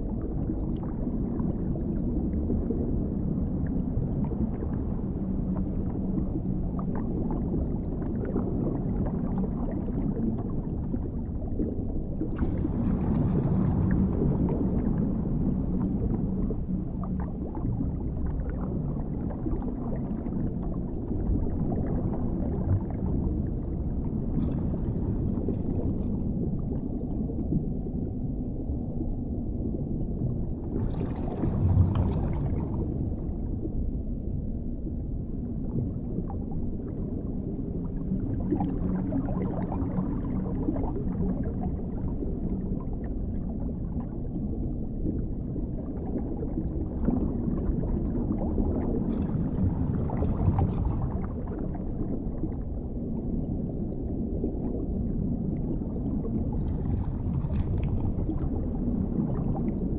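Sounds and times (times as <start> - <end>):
deep muffled underwater rumble: 0.0 - 59.9
gurgling water: 0.0 - 59.9.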